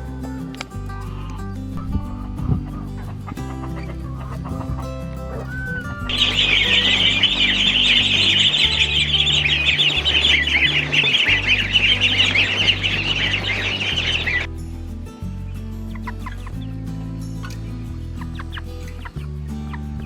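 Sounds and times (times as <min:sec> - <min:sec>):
low sustained music notes: 0:00.0 - 0:20.0
small birds chirping: 0:00.3 - 0:14.5, 0:15.4 - 0:20.0.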